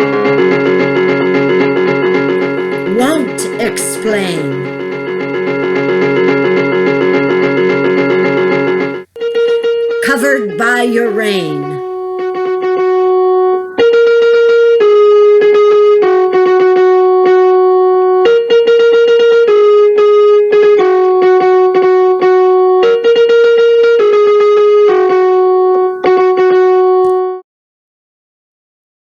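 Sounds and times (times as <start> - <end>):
sustained keyboard notes: 0.0 - 27.4.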